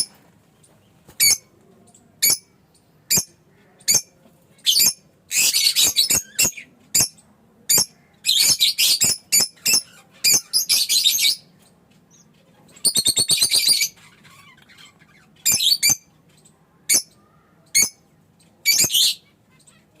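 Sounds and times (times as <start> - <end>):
lovebird chirping: 1.2 - 20.0.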